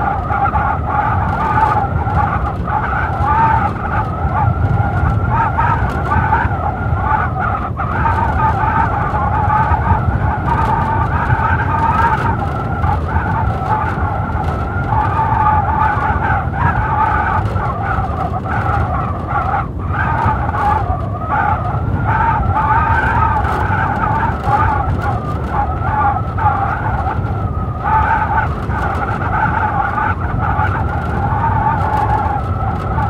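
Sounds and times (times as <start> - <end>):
howling blizzard wind: 0.0 - 33.0.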